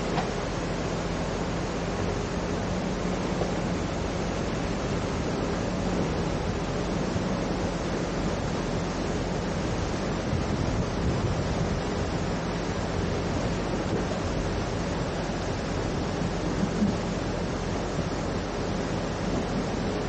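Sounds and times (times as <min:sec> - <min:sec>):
diesel engine humming: 0:00.0 - 0:20.0
floodwater rushing: 0:00.0 - 0:20.0.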